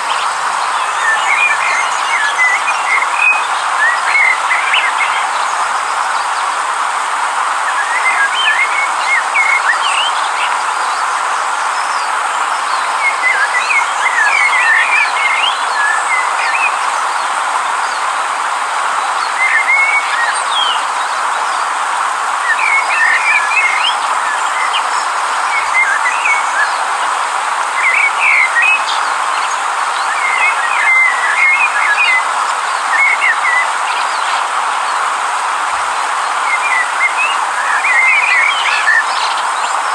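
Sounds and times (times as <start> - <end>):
birds chirping: 0.0 - 39.9
river rushing: 0.0 - 39.9.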